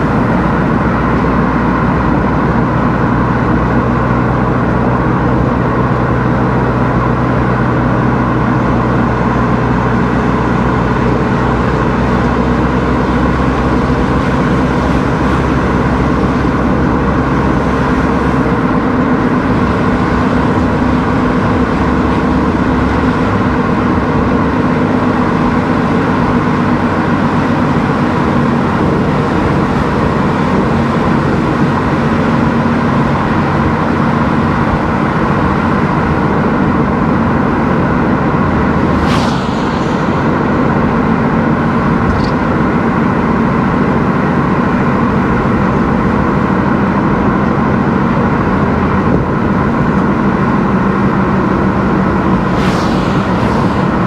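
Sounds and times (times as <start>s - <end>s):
car engine hum: 0.0s - 54.0s
tyre road noise: 0.0s - 54.0s.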